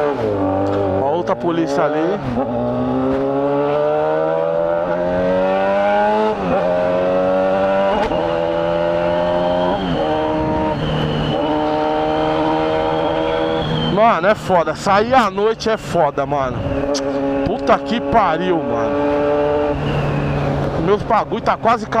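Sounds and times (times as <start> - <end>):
motorcycle engine accelerating: 0.0 - 15.3, 16.6 - 22.0.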